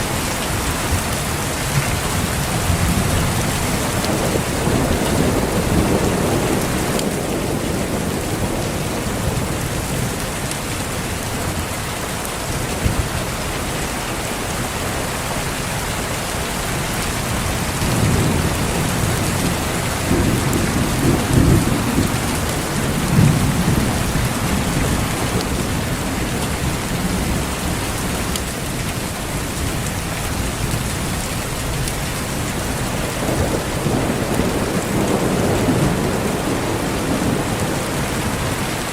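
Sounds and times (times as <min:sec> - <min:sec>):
thunder rumbling: 0:00.0 - 0:11.8, 0:16.7 - 0:38.9
steady rain falling: 0:00.0 - 0:38.9.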